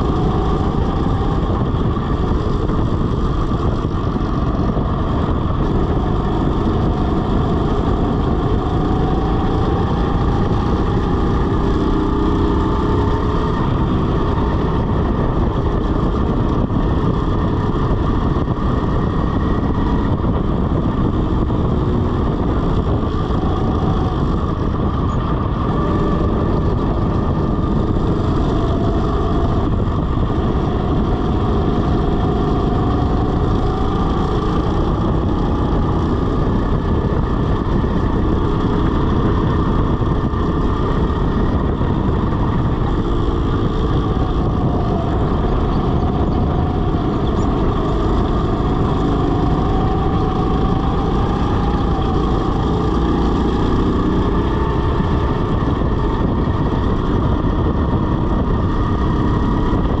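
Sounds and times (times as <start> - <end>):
go-kart motor whining: 0.0 - 60.0.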